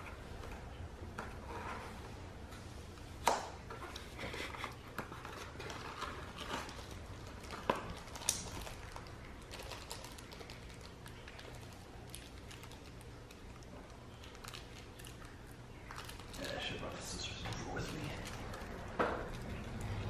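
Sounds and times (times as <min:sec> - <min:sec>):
wrapping paper crinkling and tearing: 0:03.8 - 0:20.0.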